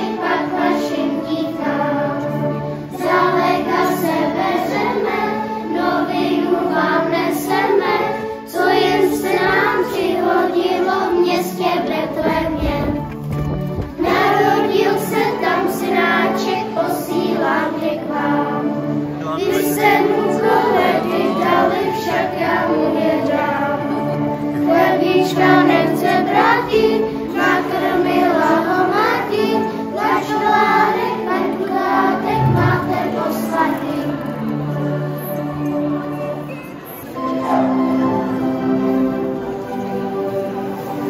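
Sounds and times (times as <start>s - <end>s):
choir with children singing: 0.0s - 41.0s
held accompaniment notes: 0.0s - 41.0s.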